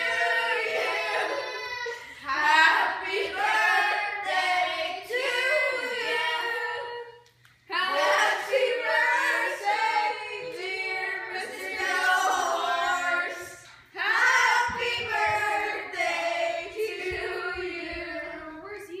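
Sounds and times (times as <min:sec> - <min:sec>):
young voices singing together: 0:00.0 - 0:19.0.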